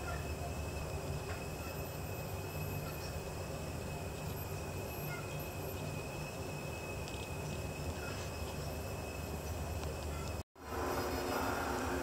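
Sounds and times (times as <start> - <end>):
constant high tone: 0.0 - 12.0
steady low hum: 0.0 - 12.0.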